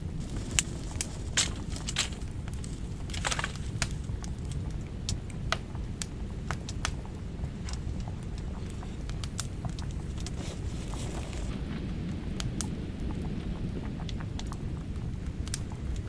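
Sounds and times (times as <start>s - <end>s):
steady low rumble: 0.0s - 16.0s
wood fire crackling: 0.0s - 16.0s
sharp pops and snaps: 0.2s - 11.5s, 12.4s - 16.0s.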